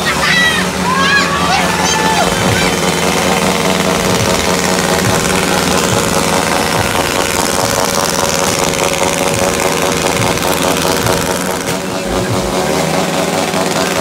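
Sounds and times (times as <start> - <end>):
engine-like drone: 0.0 - 14.0.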